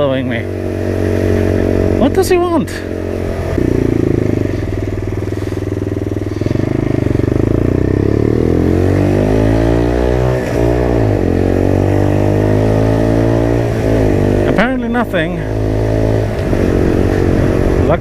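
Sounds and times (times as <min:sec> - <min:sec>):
minibike engine running: 0:00.0 - 0:18.0.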